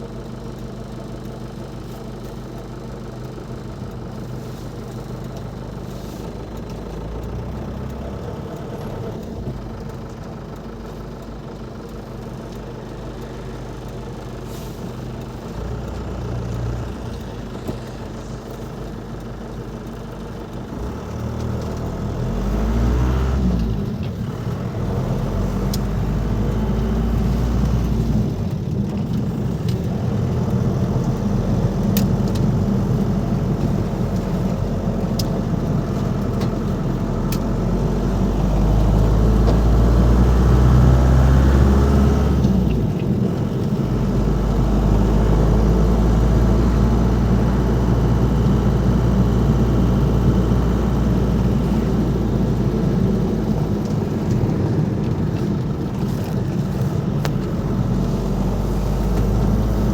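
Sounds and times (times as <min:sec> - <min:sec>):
van diesel engine driving: 0:00.0 - 0:59.9.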